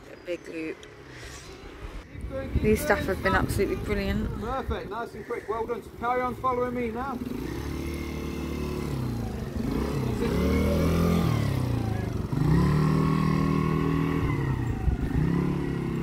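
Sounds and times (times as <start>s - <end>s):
quad bike engines riding past: 2.2s - 16.0s.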